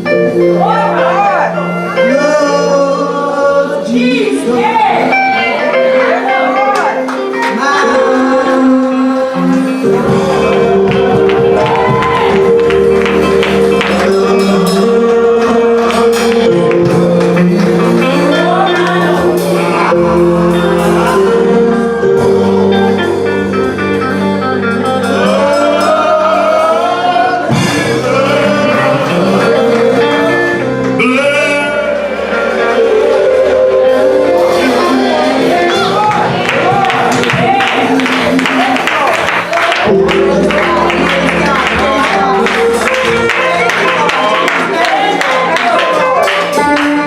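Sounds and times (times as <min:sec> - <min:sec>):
keyboard chords: 0:00.0 - 0:47.0
person singing gospel: 0:00.0 - 0:47.0.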